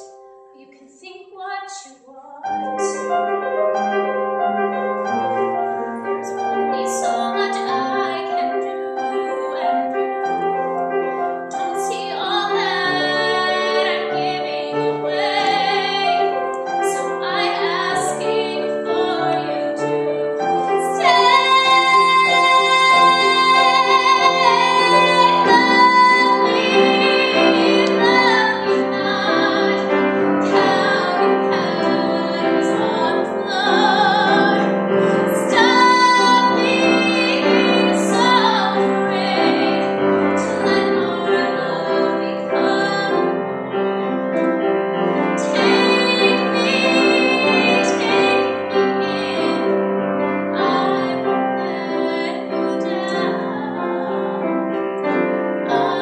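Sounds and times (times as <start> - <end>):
piano accompaniment: 0.0 - 1.2, 2.4 - 56.0
woman singing: 0.0 - 3.2, 6.2 - 10.1, 11.5 - 43.4, 45.3 - 49.7, 50.4 - 54.5, 55.6 - 56.0.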